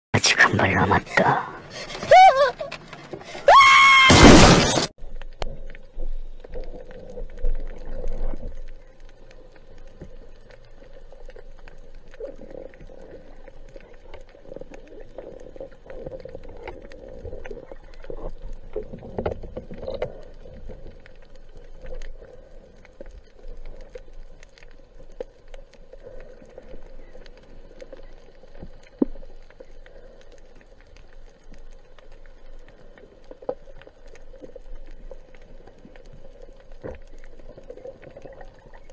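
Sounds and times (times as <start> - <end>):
faint crackling clicks: 5.0 - 38.9
muffled underwater hiss: 5.1 - 38.9.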